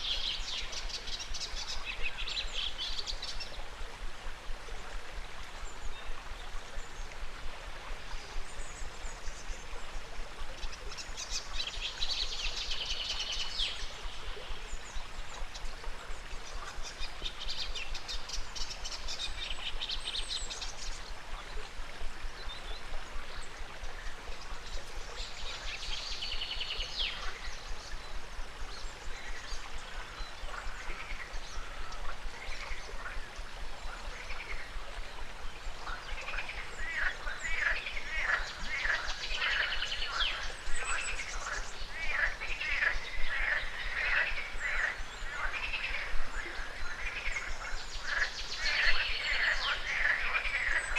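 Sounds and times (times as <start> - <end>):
river water running: 0.0 - 50.9.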